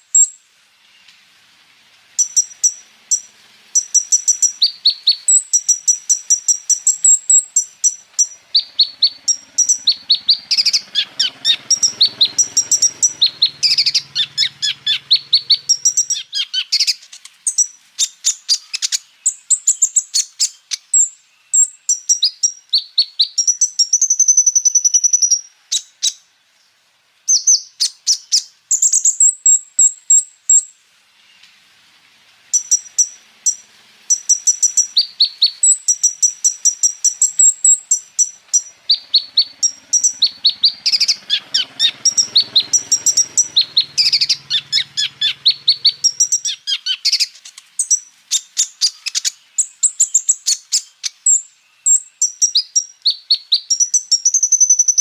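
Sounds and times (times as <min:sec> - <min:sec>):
bird chattering song: 0:00.0 - 0:01.1, 0:02.2 - 0:26.3, 0:27.3 - 0:30.7, 0:32.5 - 0:55.0.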